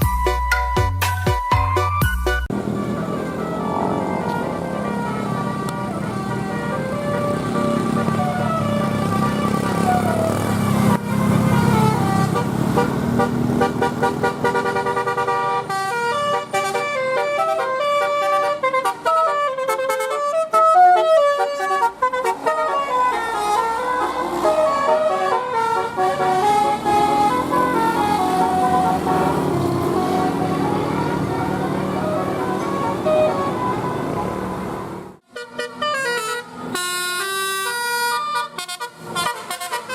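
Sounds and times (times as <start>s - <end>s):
bus engine: 0.0s - 39.9s
musical air horn melody: 0.0s - 39.9s.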